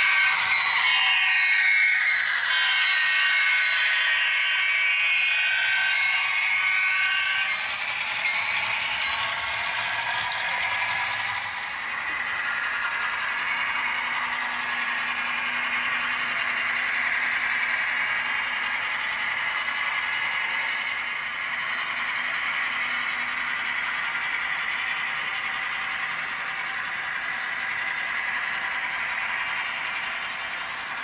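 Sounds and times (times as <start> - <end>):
model train motor whirring: 0.0 - 31.0
metal wheels rolling on track: 5.1 - 31.0.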